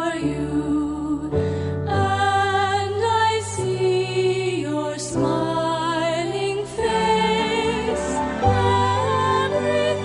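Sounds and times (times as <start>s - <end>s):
soft musical accompaniment: 0.0s - 10.0s.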